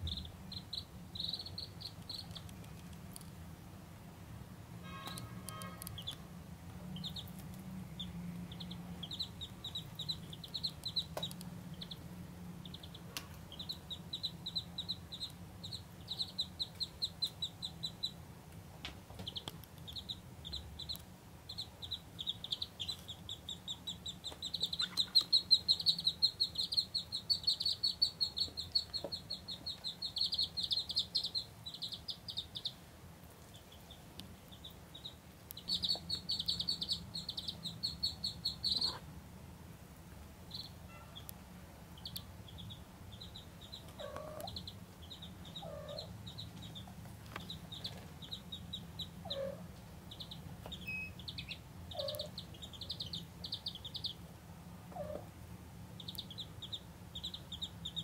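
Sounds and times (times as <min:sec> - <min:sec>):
ducklings peeping: 0:00.0 - 0:02.5, 0:04.8 - 0:06.3, 0:06.9 - 0:18.3, 0:18.9 - 0:39.1, 0:40.5 - 0:55.3, 0:55.9 - 0:58.0.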